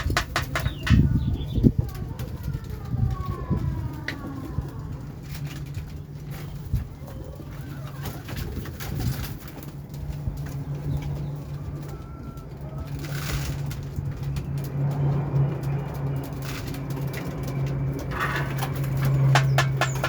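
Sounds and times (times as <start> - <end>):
pigeons cooing: 0.0 - 13.8, 14.4 - 20.0.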